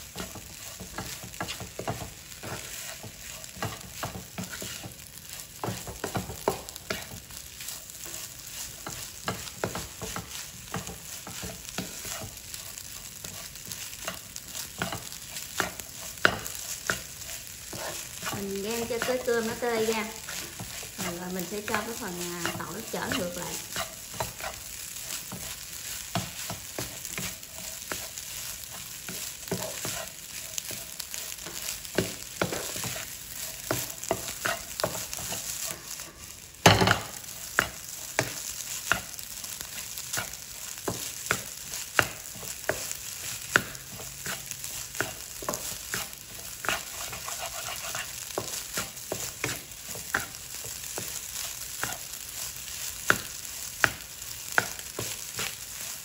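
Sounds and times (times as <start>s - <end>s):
spatula tapping pan: 0.0s - 36.0s, 36.6s - 55.9s
rice sizzling in wok: 0.0s - 56.0s.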